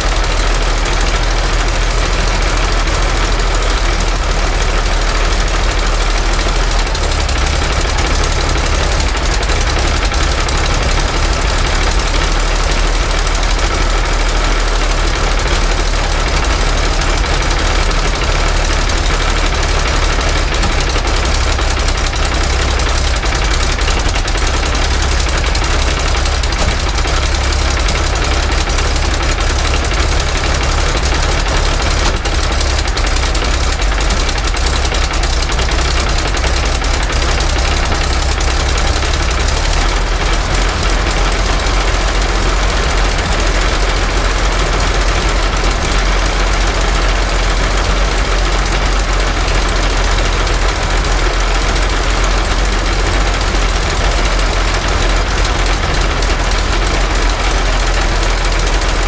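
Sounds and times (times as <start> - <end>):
aero engine running with propeller: 0.0 - 59.0.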